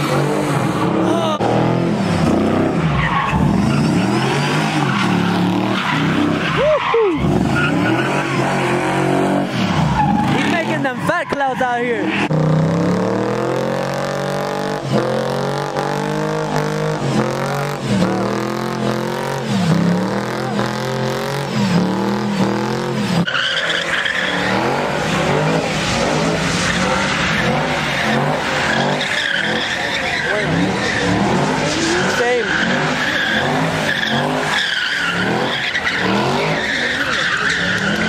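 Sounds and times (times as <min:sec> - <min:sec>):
truck engine revving: 0:00.0 - 0:11.2, 0:11.8 - 0:38.0
tyres squealing: 0:02.6 - 0:12.3, 0:14.1 - 0:38.0.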